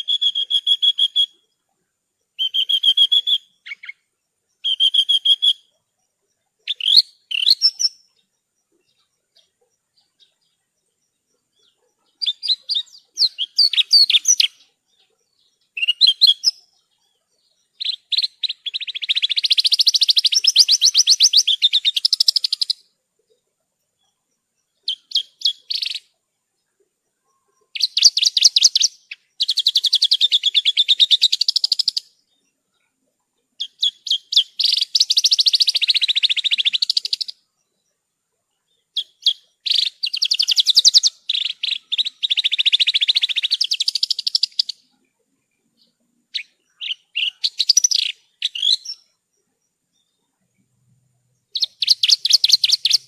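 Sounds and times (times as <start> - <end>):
bush lark singing: 0.0 - 53.0.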